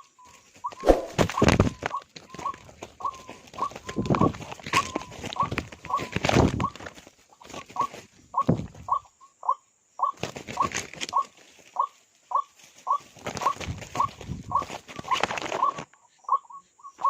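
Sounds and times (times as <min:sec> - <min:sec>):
bird calling: 0:00.0 - 0:17.0
rustling: 0:00.2 - 0:08.9, 0:10.2 - 0:15.9.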